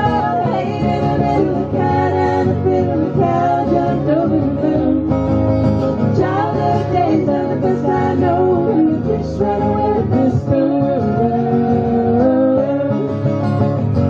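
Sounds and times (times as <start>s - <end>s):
women singing together: 0.0s - 5.3s, 6.0s - 13.2s
strummed acoustic guitar: 0.0s - 14.0s.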